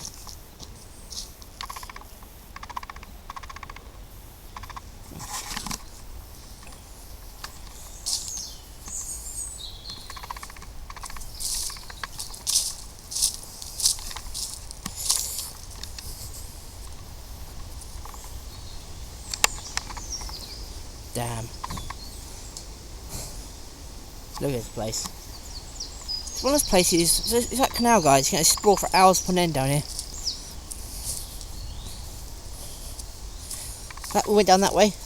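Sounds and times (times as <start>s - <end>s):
footsteps through undergrowth: 0.0s - 2.0s, 4.9s - 23.6s, 24.8s - 35.0s
bird chirping: 4.6s - 23.6s, 24.3s - 35.0s.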